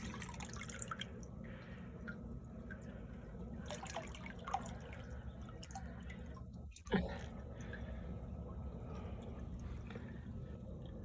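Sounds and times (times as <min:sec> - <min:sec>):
low pump hum: 0:00.0 - 0:11.0
water dripping and trickling: 0:00.0 - 0:11.0.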